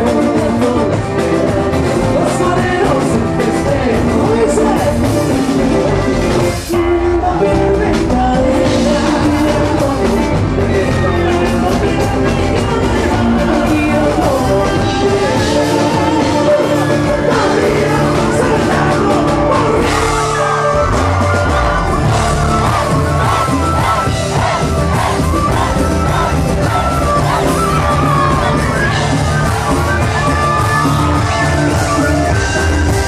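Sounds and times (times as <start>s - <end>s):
live band playing: 0.0s - 33.0s
man singing: 0.0s - 33.0s.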